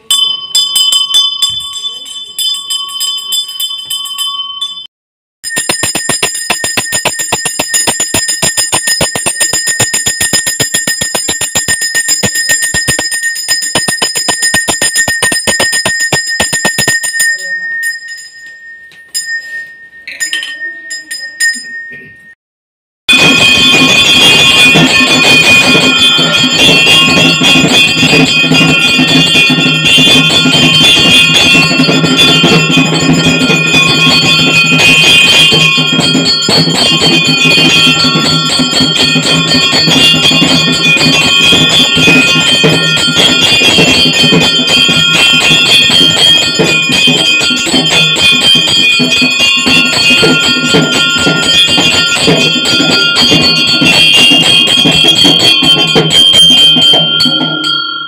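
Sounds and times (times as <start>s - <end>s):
bells ringing: 0.0s - 22.4s, 23.1s - 58.0s
fast dense percussion: 5.4s - 18.2s, 23.1s - 57.9s.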